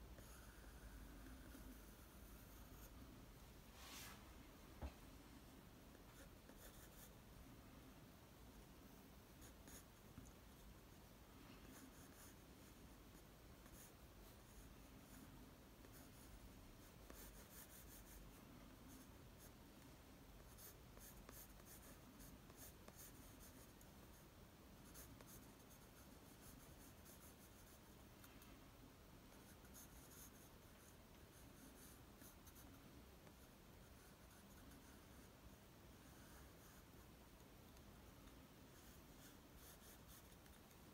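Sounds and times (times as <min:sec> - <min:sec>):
pencil scratching on paper: 0:00.2 - 0:03.0, 0:05.9 - 0:07.1, 0:08.9 - 0:19.6, 0:20.4 - 0:28.0, 0:29.3 - 0:37.1, 0:37.7 - 0:40.9.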